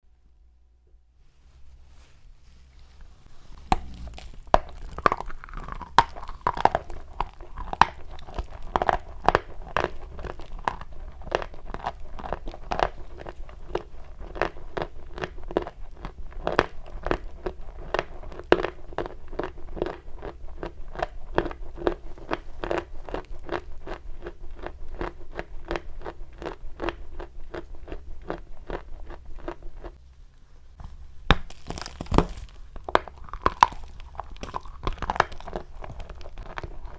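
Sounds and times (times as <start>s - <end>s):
chalk crunching: 1.4s - 25.2s, 26.3s - 36.9s.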